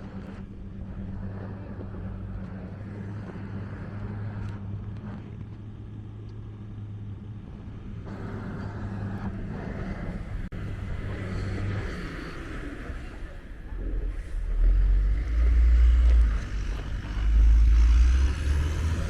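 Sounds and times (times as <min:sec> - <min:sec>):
engine running low hum: 0:00.0 - 0:19.0
traffic noise: 0:00.0 - 0:19.0.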